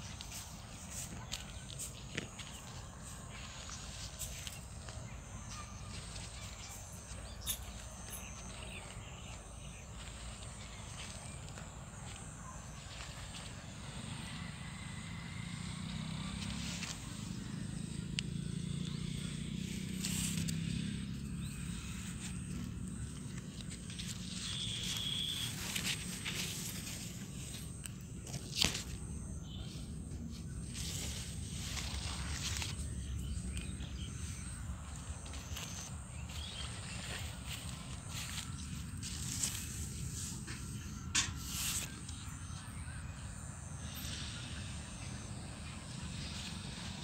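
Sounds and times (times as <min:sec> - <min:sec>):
leaves rustling against phone: 0:00.0 - 0:15.2, 0:18.8 - 0:43.2.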